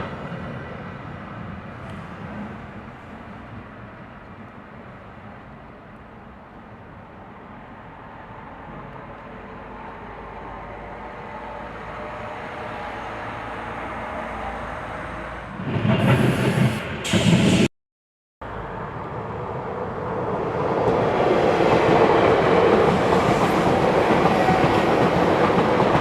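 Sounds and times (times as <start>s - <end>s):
rush of passing train: 0.0s - 17.7s, 18.4s - 26.0s
train running noise: 0.0s - 17.7s, 18.5s - 26.0s.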